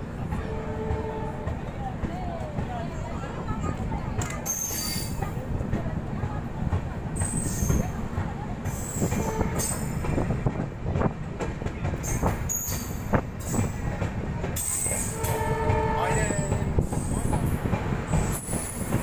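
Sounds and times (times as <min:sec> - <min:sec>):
rumble of wheels on rail: 0:00.0 - 0:19.0.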